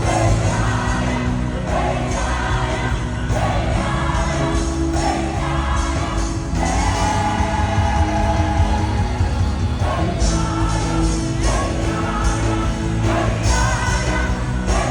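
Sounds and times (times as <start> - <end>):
band playing worship music: 0.0 - 14.9
choir and congregation singing: 0.0 - 14.9.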